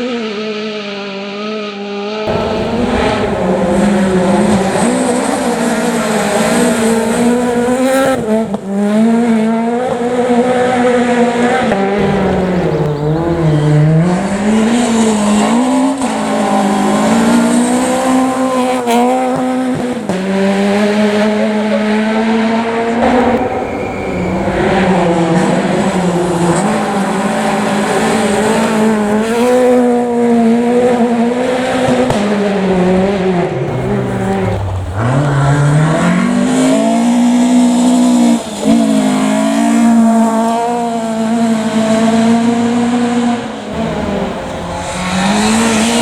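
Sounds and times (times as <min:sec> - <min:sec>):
rally car engine revving: 0:00.0 - 0:46.0.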